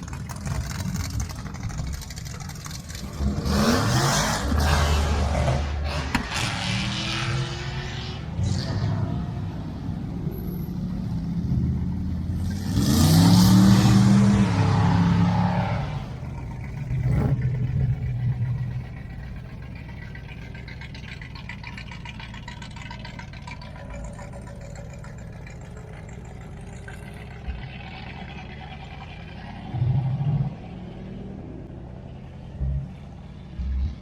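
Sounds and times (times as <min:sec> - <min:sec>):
cars driving past: 0:00.0 - 0:34.0
low engine rumble: 0:00.0 - 0:34.0.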